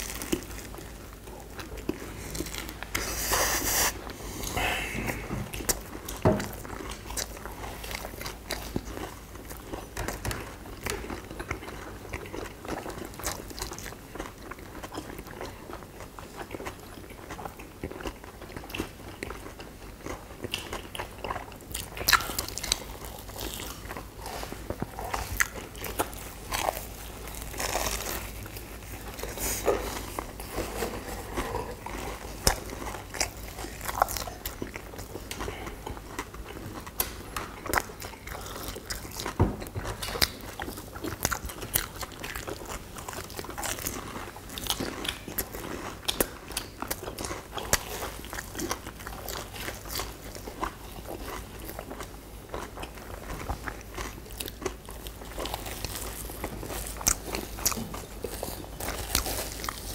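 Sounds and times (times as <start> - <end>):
people crunching doughnuts: 0.0 - 59.9.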